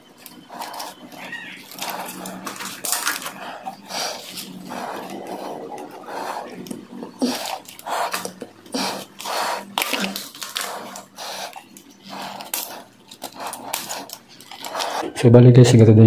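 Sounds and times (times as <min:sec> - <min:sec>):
wire and pliers rustling and scraping: 0:00.0 - 0:15.1.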